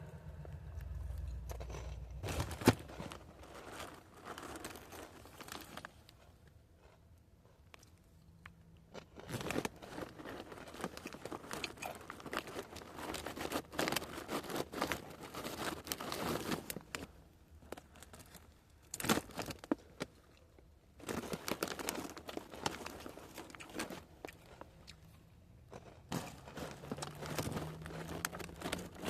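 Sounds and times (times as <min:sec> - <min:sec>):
plastic chip bag crackling: 0:00.3 - 0:07.0, 0:09.0 - 0:20.2, 0:21.0 - 0:24.9, 0:25.7 - 0:29.0.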